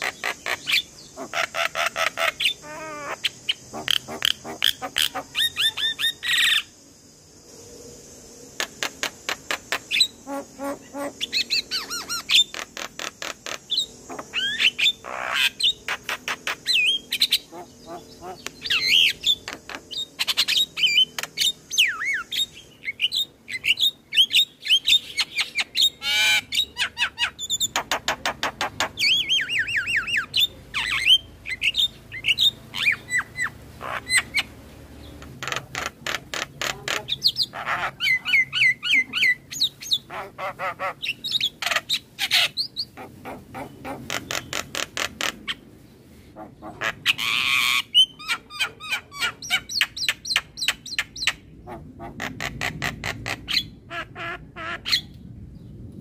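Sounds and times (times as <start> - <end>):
myna singing chirps and squawks: 0.0 - 6.8, 8.6 - 45.7, 46.4 - 55.2.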